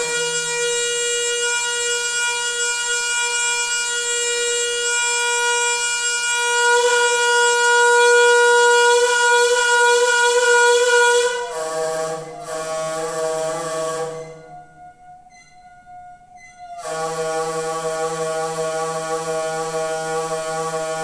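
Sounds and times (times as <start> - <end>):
water pipe singing horn-like tone: 0.0 - 21.0.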